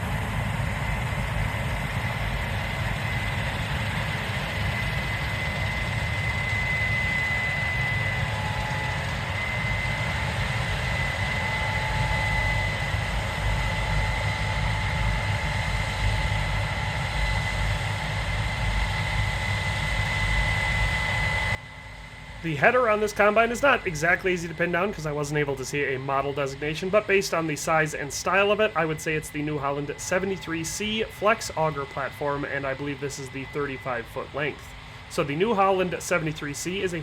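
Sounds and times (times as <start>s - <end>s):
high whine: 0.0s - 37.0s.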